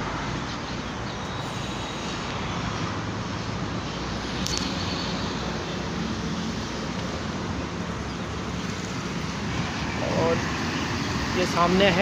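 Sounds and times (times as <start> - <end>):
highway traffic rushing: 0.0 - 12.0.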